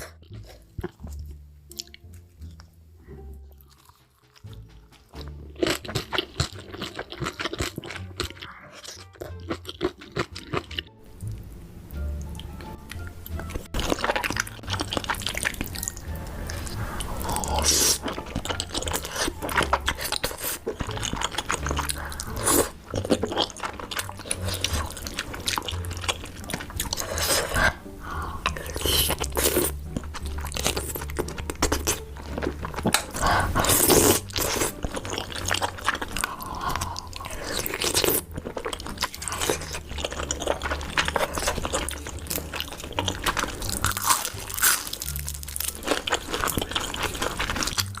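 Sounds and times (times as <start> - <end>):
chewing and crunchy bites: 0.0 - 2.7, 3.5 - 11.0, 12.2 - 48.0
faint background music: 0.0 - 48.0.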